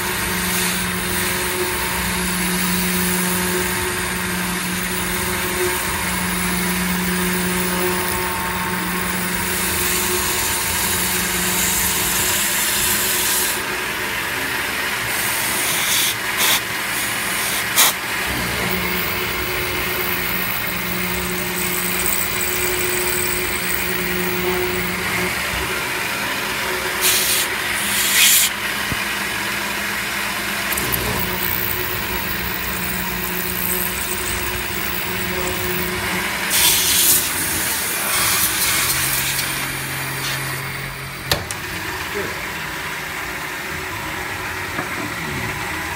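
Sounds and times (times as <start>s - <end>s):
milling machine cutting metal: 0.0s - 42.9s.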